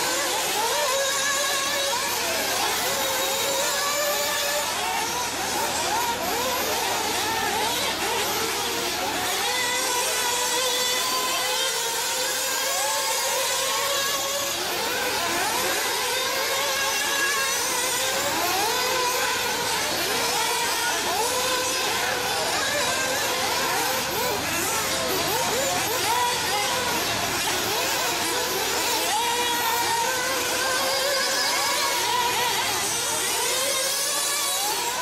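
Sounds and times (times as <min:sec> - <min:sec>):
model car engines whining: 0:00.0 - 0:35.0.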